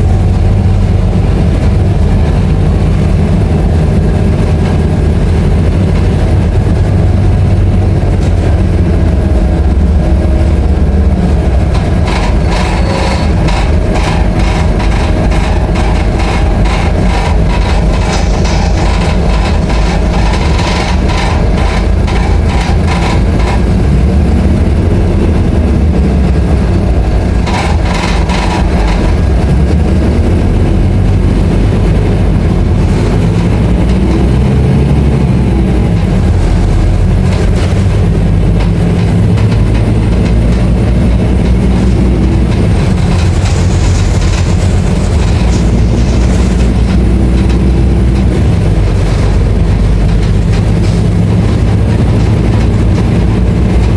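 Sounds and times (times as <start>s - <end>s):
bus diesel engine running: 0.0s - 53.9s
rattling clicks: 0.1s - 53.9s.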